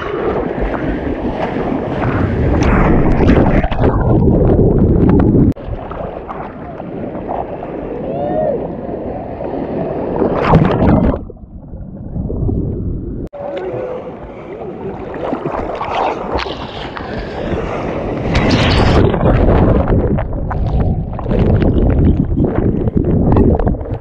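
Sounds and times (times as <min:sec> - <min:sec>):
waves sloshing and breaking: 0:00.0 - 0:24.0
muffled underwater sound: 0:01.9 - 0:24.0.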